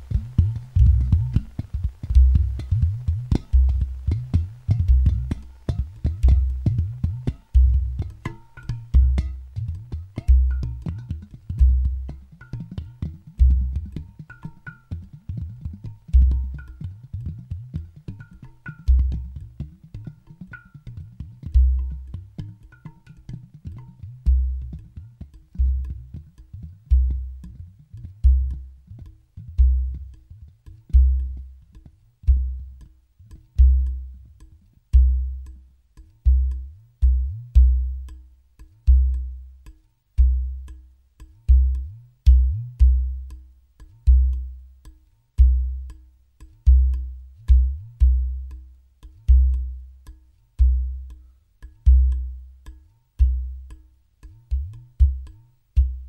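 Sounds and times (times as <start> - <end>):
clay pot drums: 0.0 - 56.0.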